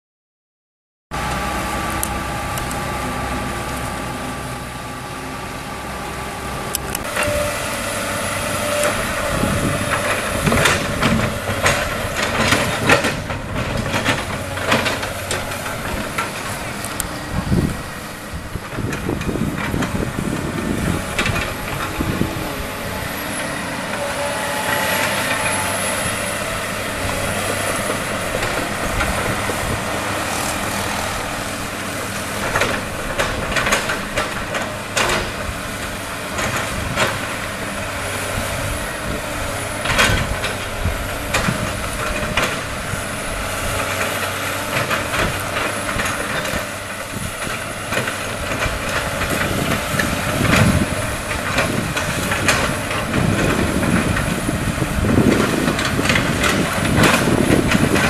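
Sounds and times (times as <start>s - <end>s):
excavator diesel engine running: 1.1s - 58.0s.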